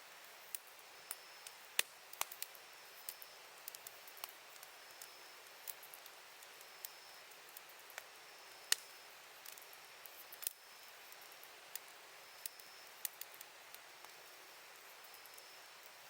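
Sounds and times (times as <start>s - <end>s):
campfire crackling: 0.1s - 16.0s.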